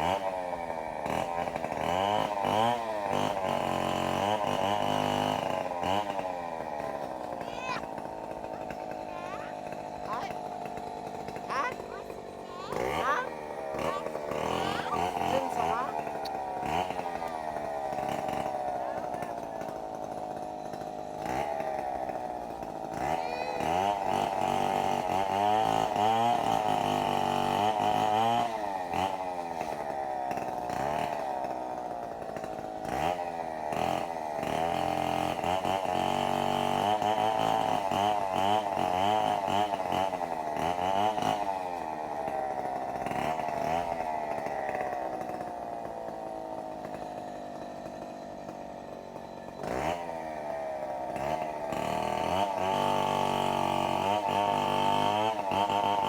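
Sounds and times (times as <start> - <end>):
chainsaw cutting firewood: 0.0 - 56.0.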